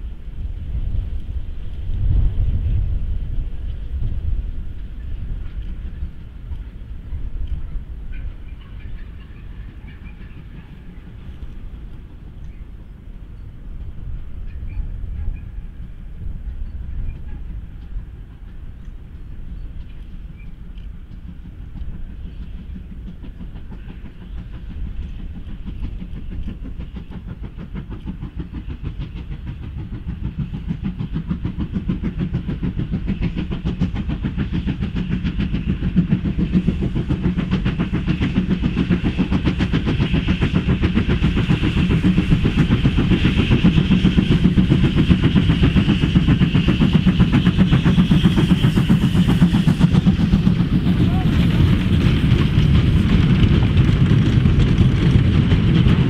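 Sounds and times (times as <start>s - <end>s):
steam train rumble: 0.0s - 56.0s.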